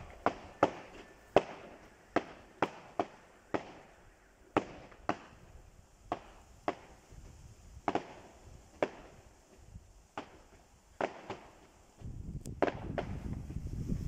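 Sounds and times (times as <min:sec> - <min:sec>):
fireworks bangs: 0:00.0 - 0:13.4.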